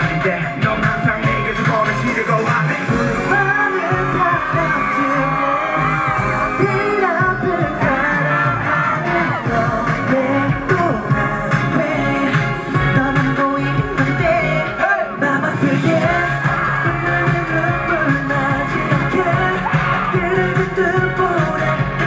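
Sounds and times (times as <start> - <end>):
pop backing track with beat: 0.0 - 22.0
group singing live: 0.2 - 22.0.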